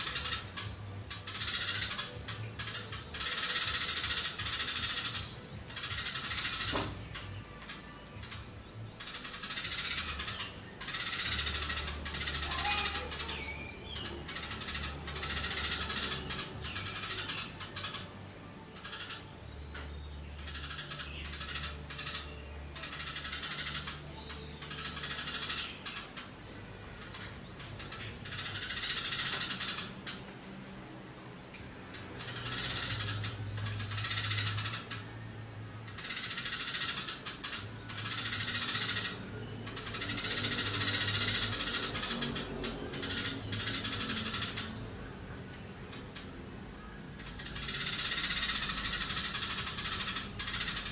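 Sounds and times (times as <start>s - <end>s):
sparrow chattering song: 0.0s - 30.4s, 31.4s - 50.9s.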